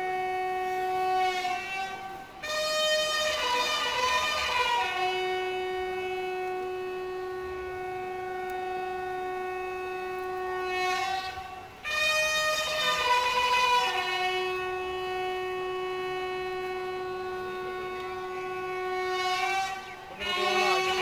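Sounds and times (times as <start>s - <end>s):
bugle call: 0.0s - 21.0s.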